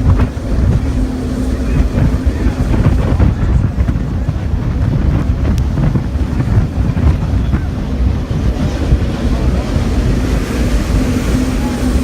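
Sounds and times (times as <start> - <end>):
boat engine: 0.0 - 12.0
rushing water: 0.0 - 12.0
wind buffeting microphone: 0.0 - 12.0.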